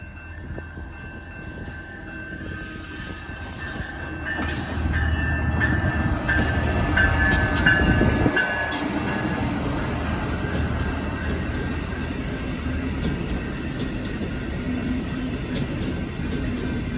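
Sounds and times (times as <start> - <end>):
high ringing from wheels on rails: 0.0 - 16.9
passenger train passing: 0.0 - 16.9.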